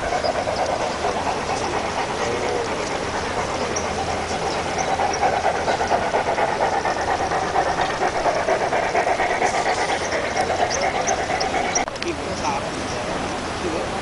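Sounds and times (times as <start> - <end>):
steam hissing: 0.0 - 12.7
model steam locomotive chuffing: 0.0 - 13.2.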